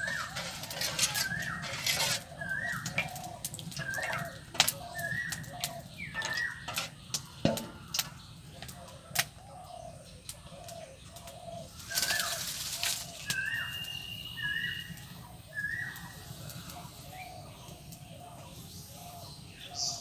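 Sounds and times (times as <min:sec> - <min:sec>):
bird calling: 0:00.0 - 0:18.4.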